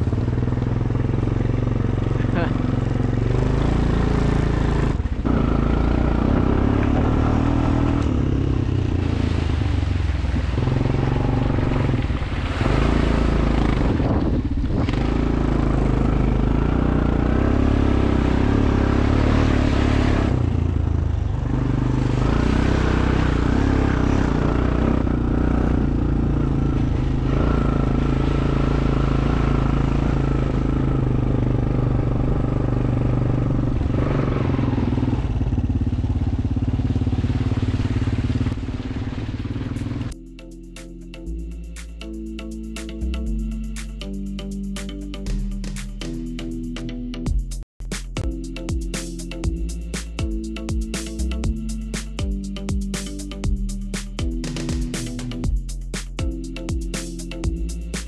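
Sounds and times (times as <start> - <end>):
atv engine running: 0.0 - 40.2, 48.2 - 58.0.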